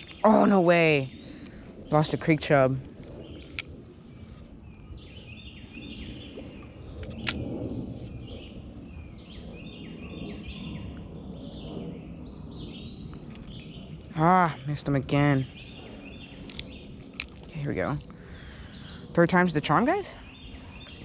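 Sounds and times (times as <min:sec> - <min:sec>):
birds chirping: 0:00.0 - 0:21.0
low outdoor rumble: 0:00.0 - 0:21.0.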